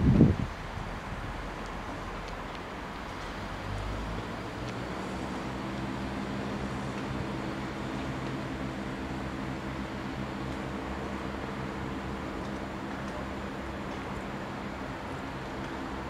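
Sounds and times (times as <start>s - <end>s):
diesel engines droning: 0.0s - 16.0s
train wind and track noise: 0.0s - 16.0s.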